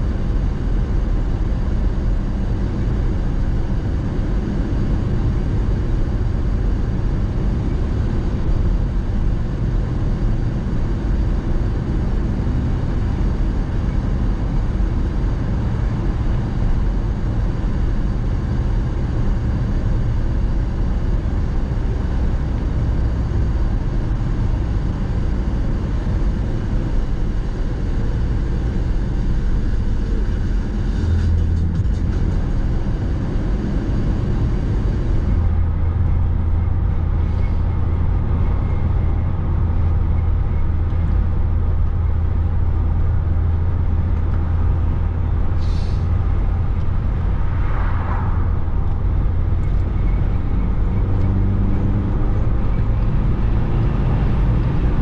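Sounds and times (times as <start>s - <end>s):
car road and engine drone: 0.0s - 55.0s.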